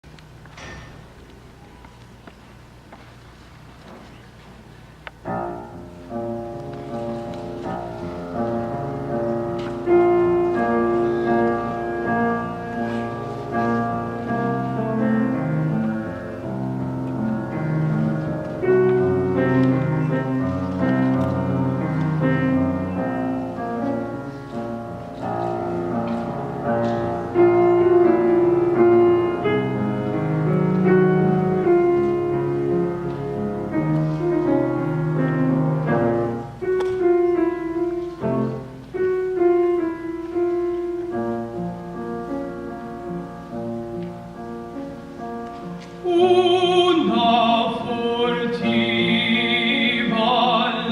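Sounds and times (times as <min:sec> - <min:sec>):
classical piano piece: 0:00.0 - 0:50.9.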